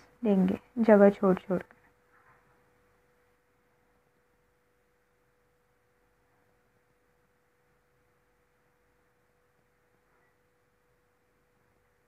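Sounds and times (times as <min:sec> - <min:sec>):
thin steady hum: 0:00.0 - 0:12.0.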